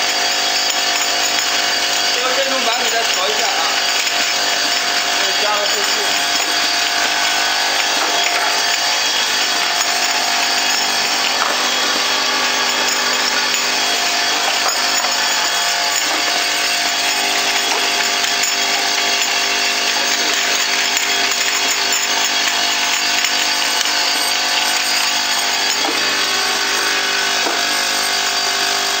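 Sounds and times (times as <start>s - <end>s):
machine whine and motor hum: 0.0s - 29.0s.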